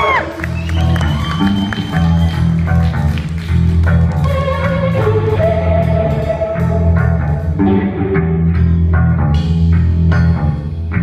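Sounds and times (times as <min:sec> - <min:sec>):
bass guitar: 0:00.0 - 0:11.0
drum kit: 0:00.0 - 0:11.0
electric guitars: 0:00.0 - 0:11.0.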